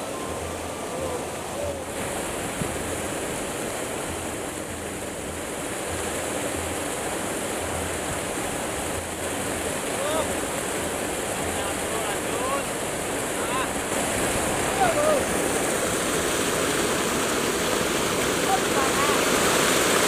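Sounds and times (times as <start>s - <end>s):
river water rushing and splashing: 0.0s - 20.0s.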